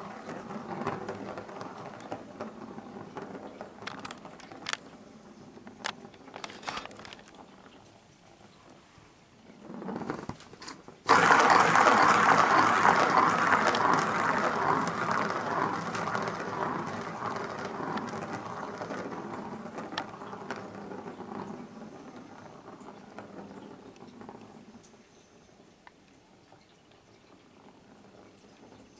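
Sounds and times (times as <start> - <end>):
ball rattling on a plastic track: 0.0 - 8.8, 9.4 - 28.9.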